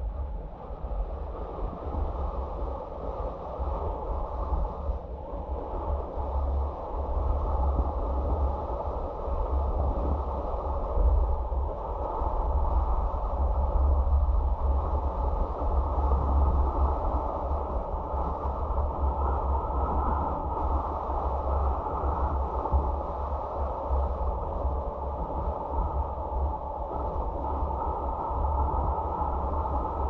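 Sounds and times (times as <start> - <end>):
muffled wind and road rumble: 0.0 - 30.0.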